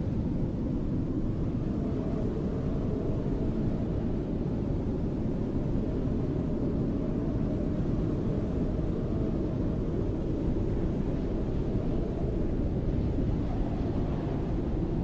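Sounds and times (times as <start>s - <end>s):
low rumbling snowstorm wind: 0.0s - 15.0s.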